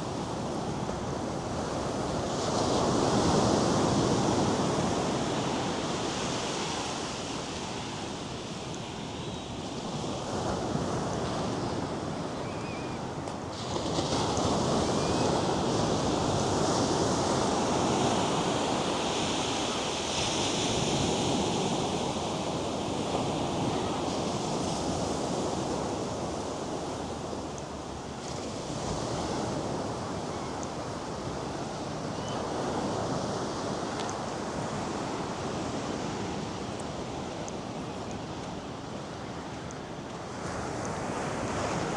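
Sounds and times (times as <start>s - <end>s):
waves breaking on shore: 0.0s - 41.9s.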